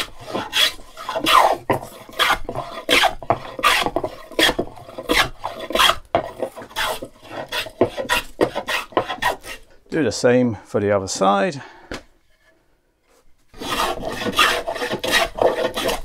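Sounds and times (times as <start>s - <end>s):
hand plane swishing strokes: 0.0s - 9.7s, 12.2s - 16.0s.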